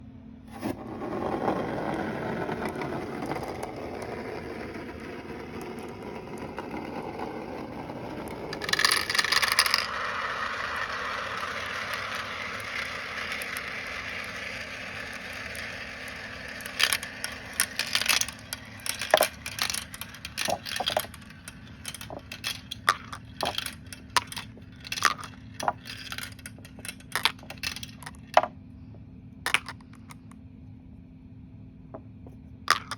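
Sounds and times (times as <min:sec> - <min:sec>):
marbles clattering: 0:00.6 - 0:28.5, 0:29.5 - 0:30.2, 0:32.7 - 0:32.9
marbles rolling on track: 0:00.6 - 0:28.5, 0:29.5 - 0:30.2, 0:32.7 - 0:32.9
marbles clacking on track: 0:01.2 - 0:28.5, 0:29.5 - 0:30.2, 0:32.7 - 0:32.9.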